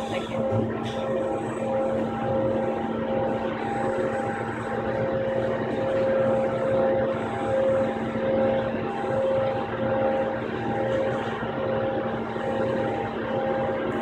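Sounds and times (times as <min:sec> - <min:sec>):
robot arm mechanical hum: 0:00.0 - 0:14.0.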